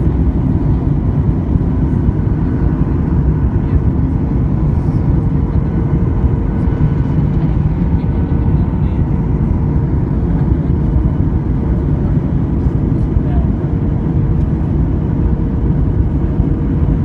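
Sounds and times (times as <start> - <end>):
airflow over fuselage: 0.0 - 17.0
jet engine rumble: 0.0 - 17.0.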